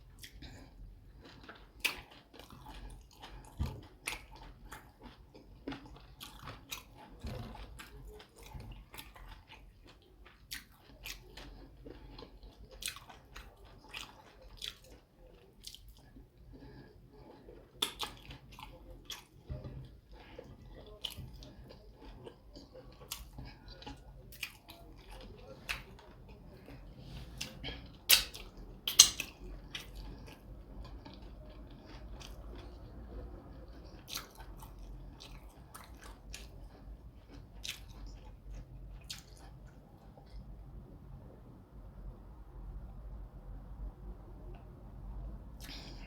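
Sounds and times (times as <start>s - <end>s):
person chewing with mouth smacking: 0.0s - 40.6s, 45.6s - 46.0s.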